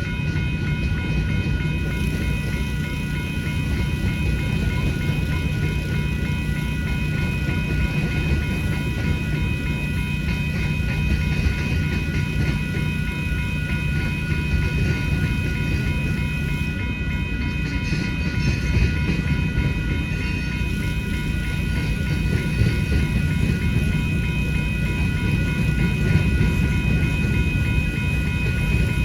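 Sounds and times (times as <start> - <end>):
crossing bell ringing: 0.0 - 29.0
freight train rumbling: 0.0 - 29.0.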